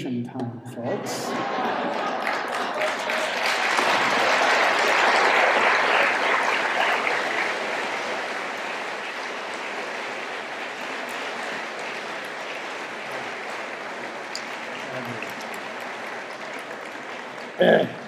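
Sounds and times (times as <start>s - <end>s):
audience applauding: 1.3s - 18.0s.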